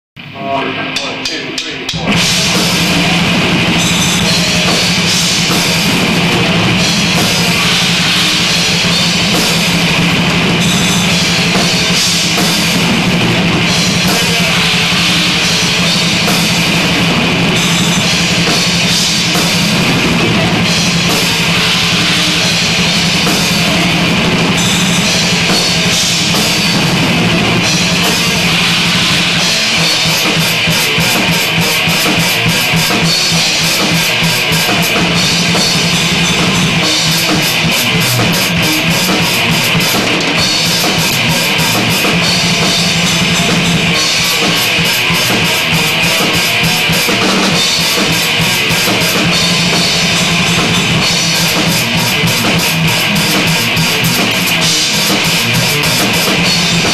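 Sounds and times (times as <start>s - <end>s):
drum kit: 0.2s - 56.9s
electric guitar: 0.2s - 56.9s.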